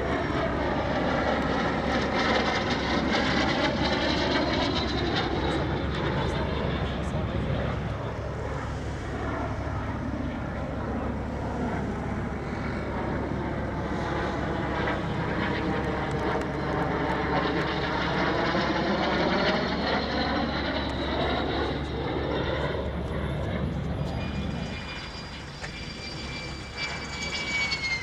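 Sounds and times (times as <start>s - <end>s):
jet engines flying past: 0.0s - 28.0s.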